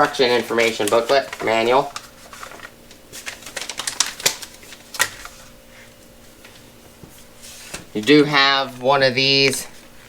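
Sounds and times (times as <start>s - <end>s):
paper packaging rustling: 0.0s - 10.0s.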